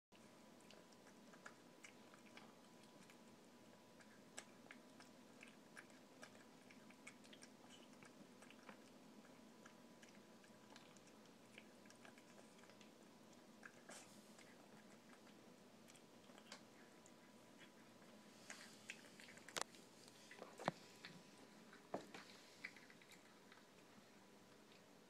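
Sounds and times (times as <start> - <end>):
cat chewing food: 0.1 - 25.0.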